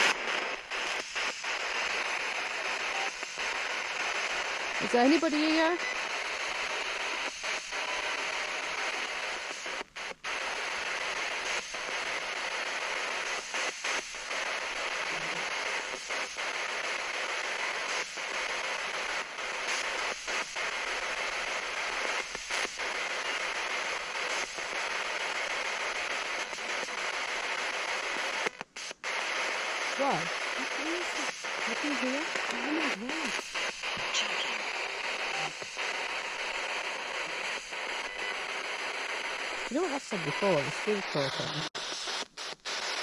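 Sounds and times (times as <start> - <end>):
radio static hiss: 0.0 - 43.0.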